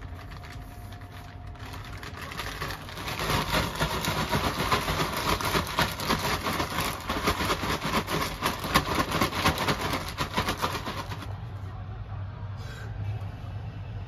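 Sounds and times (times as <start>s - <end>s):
crinkly rustling of hands packing cabbage: 0.0s - 11.4s
steady low hum: 0.0s - 14.0s.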